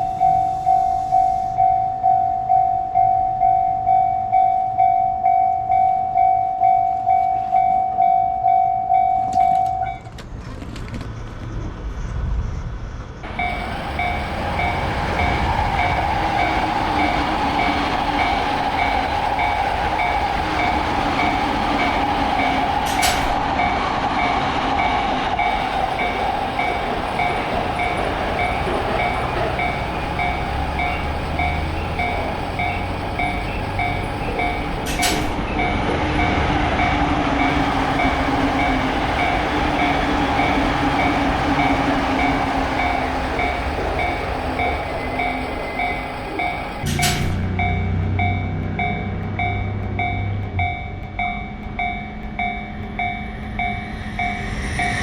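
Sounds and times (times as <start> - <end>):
level crossing bell ringing: 0.0 - 10.0, 13.3 - 49.1
train rushing past: 0.0 - 55.0.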